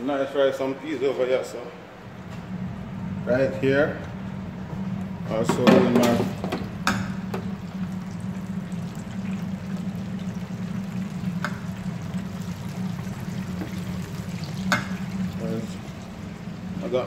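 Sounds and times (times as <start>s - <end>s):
kitchen equipment humming: 2.2s - 17.0s.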